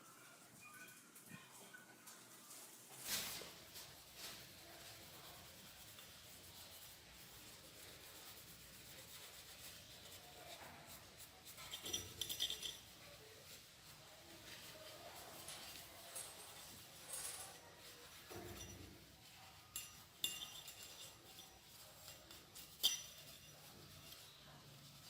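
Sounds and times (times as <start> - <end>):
small clicks and scrapes: 0.6 - 13.6, 14.3 - 25.0
faint rubbing: 2.6 - 25.0.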